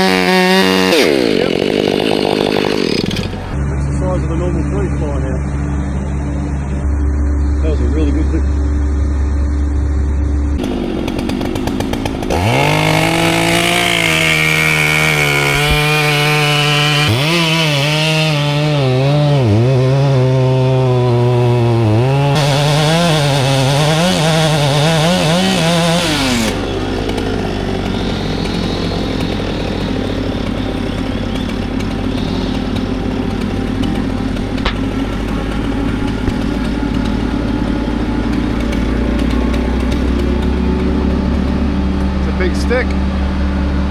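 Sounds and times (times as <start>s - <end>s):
chainsaw cutting wood: 0.0s - 3.6s, 10.6s - 43.9s
steady engine note: 0.0s - 43.9s.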